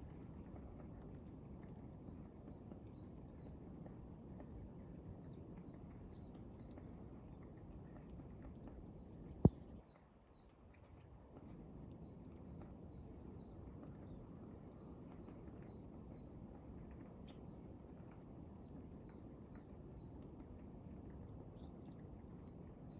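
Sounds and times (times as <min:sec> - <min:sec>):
low background noise: 0:00.0 - 0:22.9
songbird singing: 0:01.6 - 0:04.0, 0:04.8 - 0:22.9.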